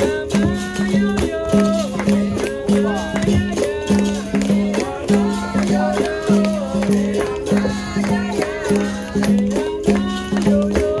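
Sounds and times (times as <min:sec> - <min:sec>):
hand drum strokes: 0:00.0 - 0:11.0
shaker rattle: 0:00.0 - 0:11.0
voices singing: 0:00.0 - 0:11.0.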